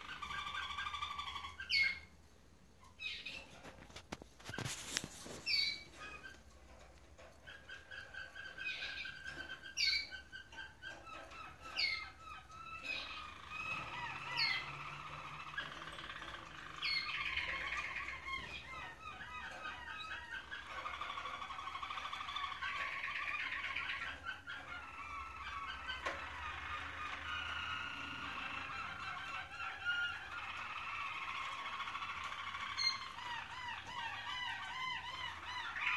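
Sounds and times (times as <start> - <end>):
canaries trilling: 0.0 - 35.9.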